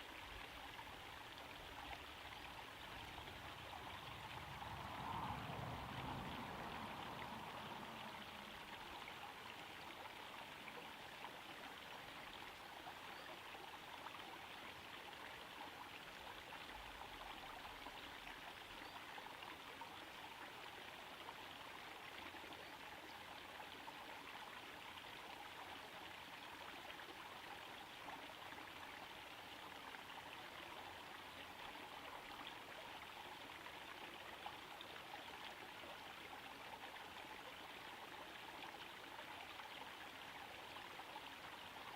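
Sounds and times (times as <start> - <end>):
small waterfall trickling into pond: 0.0 - 41.9.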